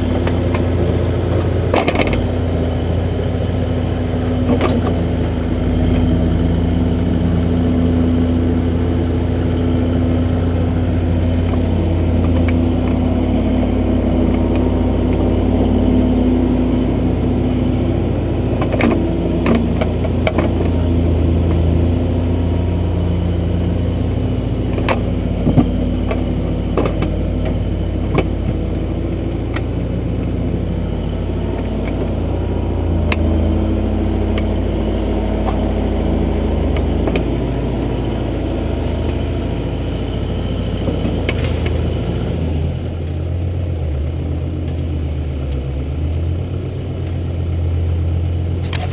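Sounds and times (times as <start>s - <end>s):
diesel engine under load: 0.0s - 48.9s.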